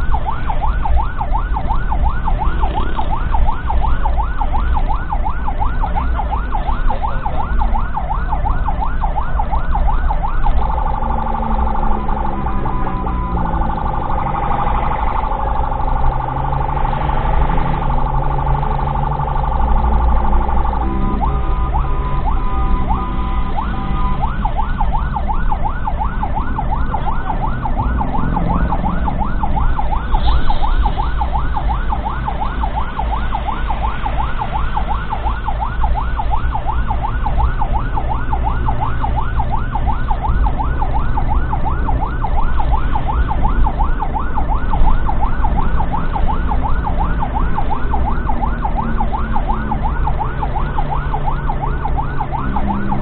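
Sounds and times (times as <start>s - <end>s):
ambulance siren: 0.0s - 53.0s
low road rumble: 0.0s - 53.0s.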